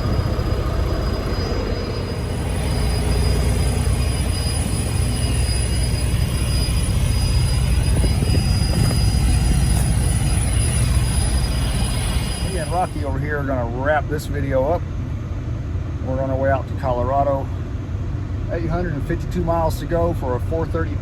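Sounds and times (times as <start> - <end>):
diesel truck engine drone: 0.0 - 21.0
road noise: 0.0 - 21.0.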